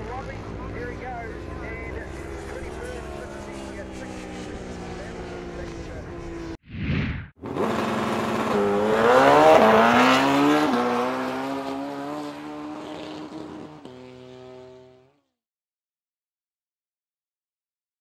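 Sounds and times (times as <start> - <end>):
motorcycle engine accelerating: 0.0 - 15.3.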